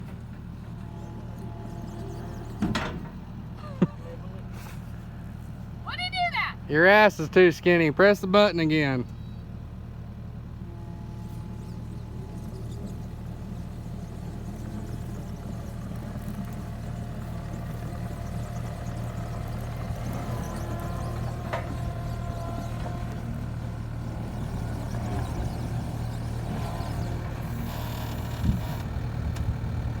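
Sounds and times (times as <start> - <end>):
skid steer engine running: 0.0 - 30.0.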